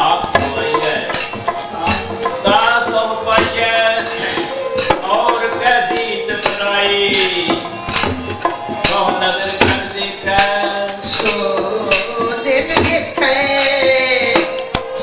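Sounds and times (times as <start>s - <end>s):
percussion strokes: 0.0s - 15.0s.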